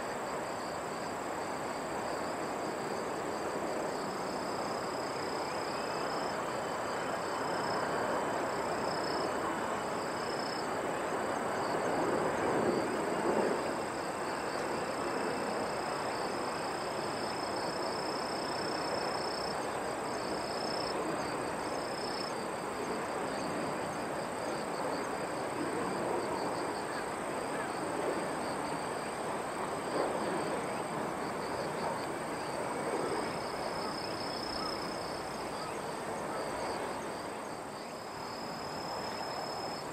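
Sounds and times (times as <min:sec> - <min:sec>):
insects chirping: 0:00.0 - 0:39.9
outdoor background noise: 0:00.0 - 0:39.9.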